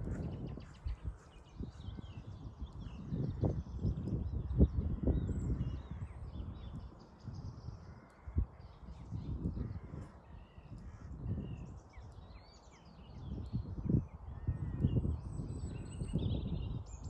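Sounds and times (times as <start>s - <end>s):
birds chirping: 0.0s - 17.0s
wind buffeting microphone: 0.0s - 17.0s.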